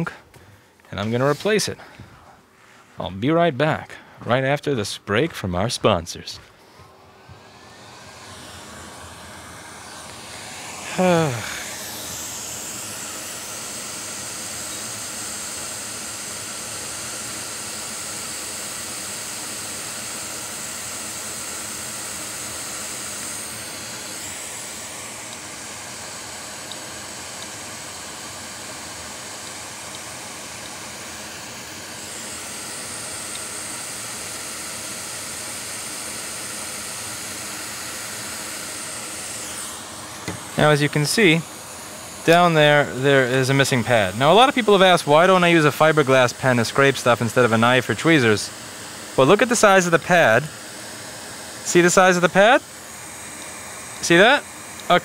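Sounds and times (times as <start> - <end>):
hot air station hissing: 0.0 - 3.2, 5.9 - 55.0.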